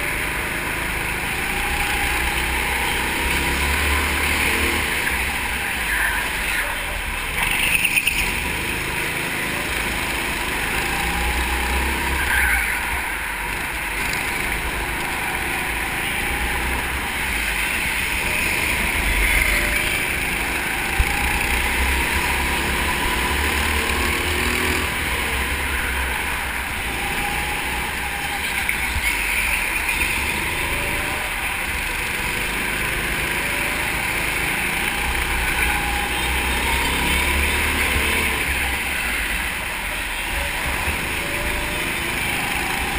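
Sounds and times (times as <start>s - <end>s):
go-kart engine: 0.0s - 42.9s.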